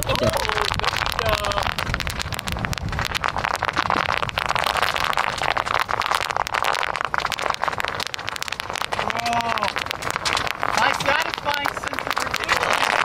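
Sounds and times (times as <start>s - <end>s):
bubble wrap popping under tire: 0.0s - 13.0s.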